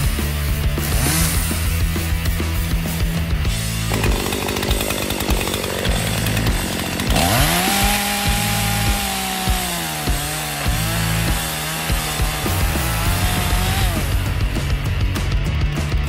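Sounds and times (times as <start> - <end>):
background music with bass: 0.0 - 16.0
chainsaw revving and cutting wood: 0.0 - 16.0.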